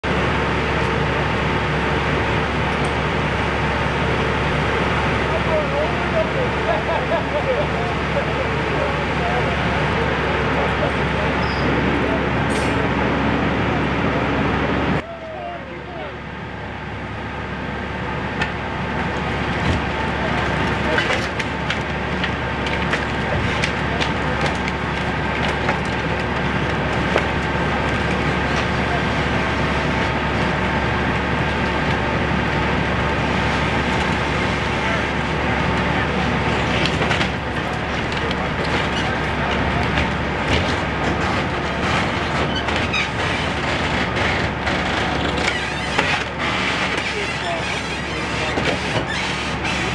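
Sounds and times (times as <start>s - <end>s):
vehicle engine idling: 0.0s - 49.9s.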